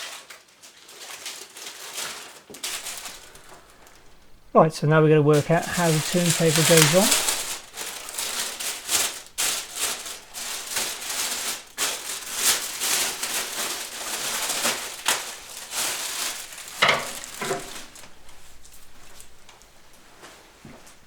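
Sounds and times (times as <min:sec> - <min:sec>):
packaging rustling: 0:00.6 - 0:21.0.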